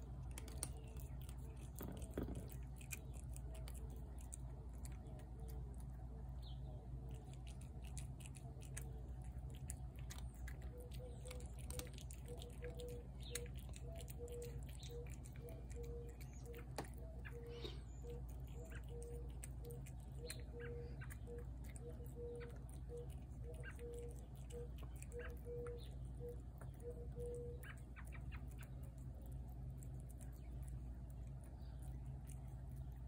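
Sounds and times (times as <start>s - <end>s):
cat chewing food: 0.0s - 33.0s.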